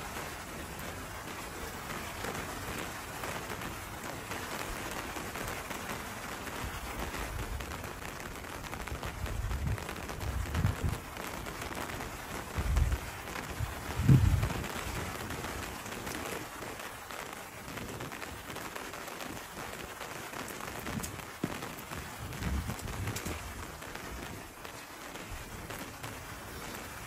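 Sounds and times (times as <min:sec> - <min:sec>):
steady rain on pavement: 0:00.0 - 0:27.0.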